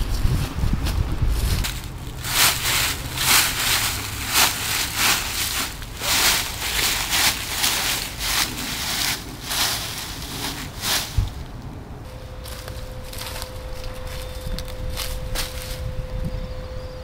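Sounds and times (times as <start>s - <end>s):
footsteps through dry leaves: 0.0s - 16.2s.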